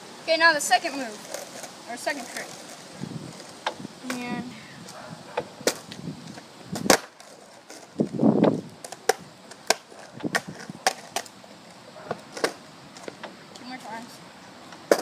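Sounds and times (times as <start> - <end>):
skateboard rolling scrape: 0.5 - 13.3
skateboard clacks on concrete: 0.9 - 4.4, 5.3 - 13.9, 14.7 - 15.0.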